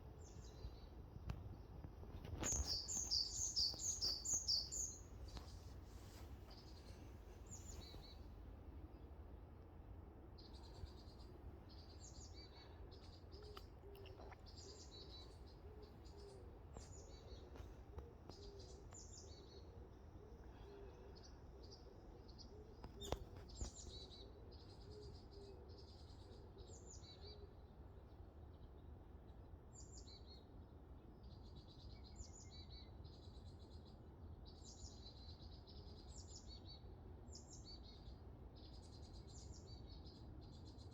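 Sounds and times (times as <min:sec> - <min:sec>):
small birds singing: 0:00.0 - 0:40.9.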